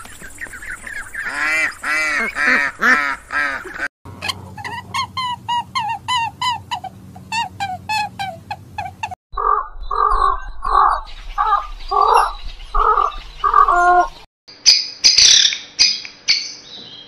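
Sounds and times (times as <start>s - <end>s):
egrets croaking: 0.0s - 14.2s.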